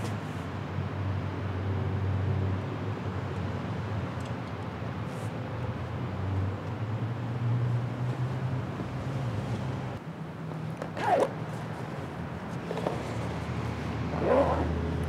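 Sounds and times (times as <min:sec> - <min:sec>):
low traffic hum and rumble: 0:00.0 - 0:15.0.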